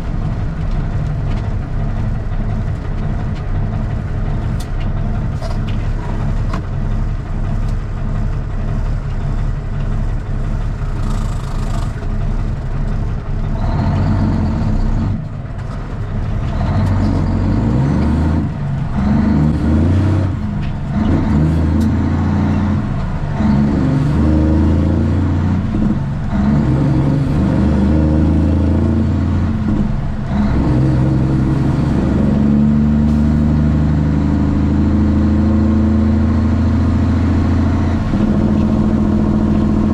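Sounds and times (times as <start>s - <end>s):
loud diesel truck engine: 0.0s - 39.9s.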